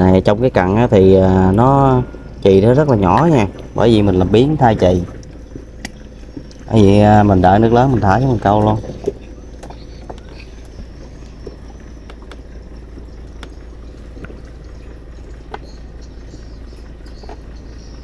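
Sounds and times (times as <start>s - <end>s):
steady low rumble: 0.0s - 18.0s
water lapping against boat: 0.0s - 18.0s.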